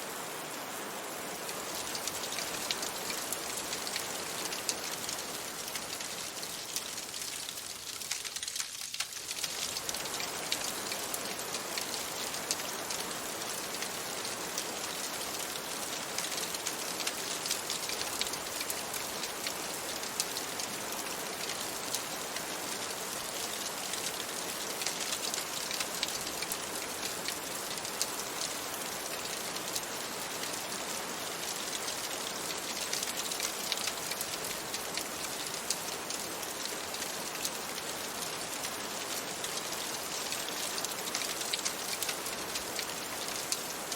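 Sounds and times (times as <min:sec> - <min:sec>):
rain pattering on a window: 0:00.0 - 0:43.9.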